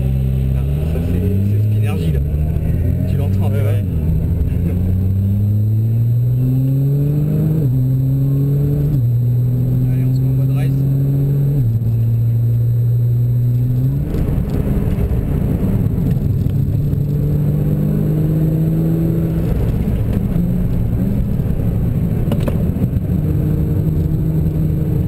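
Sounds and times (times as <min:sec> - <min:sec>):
car engine accelerating: 0:00.0 - 0:25.0
road noise rumble: 0:00.0 - 0:25.0.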